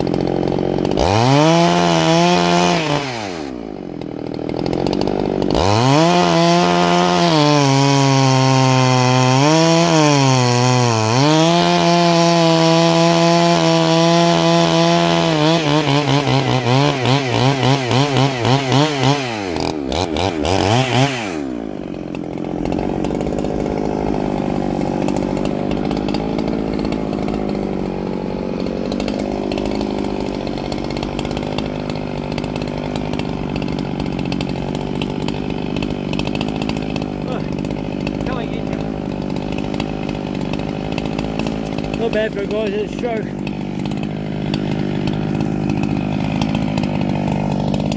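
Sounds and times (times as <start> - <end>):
chainsaw cutting log: 0.0 - 47.9
chainsaw idling: 0.0 - 47.9.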